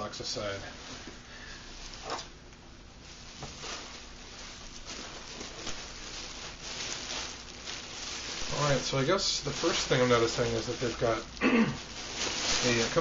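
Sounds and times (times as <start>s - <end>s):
bubble wrap and plastic bag crinkling: 0.0s - 13.0s.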